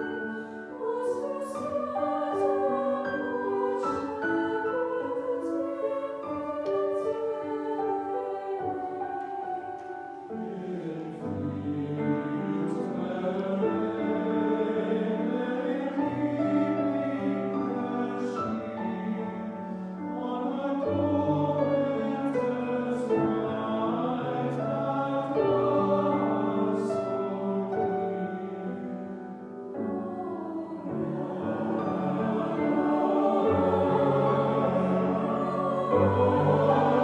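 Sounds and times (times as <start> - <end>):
mixed choir singing carol: 0.0 - 37.0.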